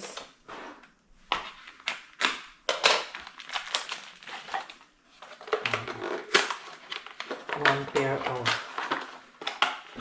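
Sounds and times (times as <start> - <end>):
plastic packaging crinkling: 1.3 - 10.0.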